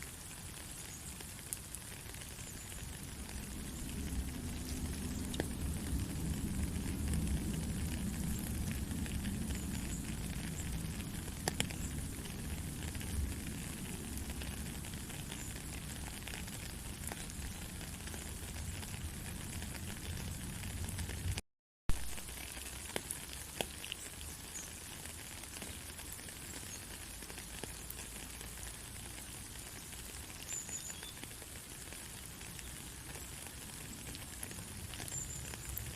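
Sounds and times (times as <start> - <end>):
rain drop ticks: 0.0 - 35.9
steady rain hiss: 0.0 - 35.9.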